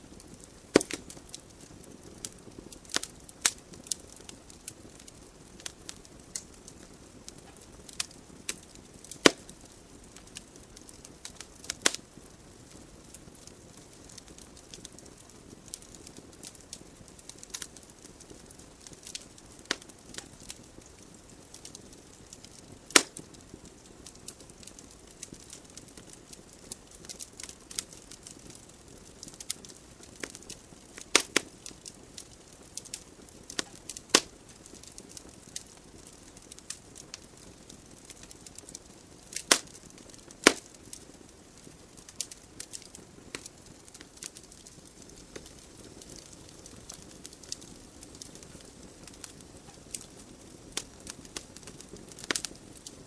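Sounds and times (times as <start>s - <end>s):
burning logs crackling and popping: 0.0s - 53.0s
soft hiss of flames: 0.0s - 53.0s.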